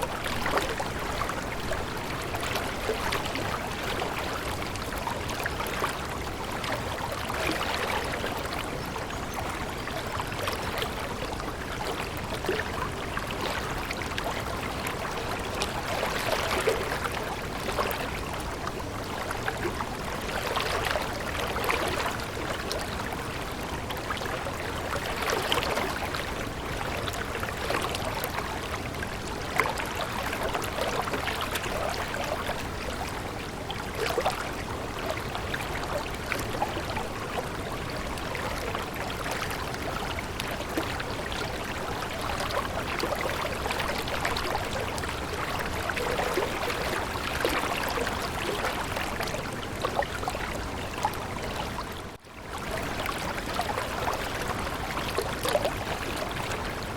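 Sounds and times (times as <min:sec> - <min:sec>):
small water splashes: 0:00.0 - 0:56.9
stream water rushing: 0:00.0 - 0:56.9.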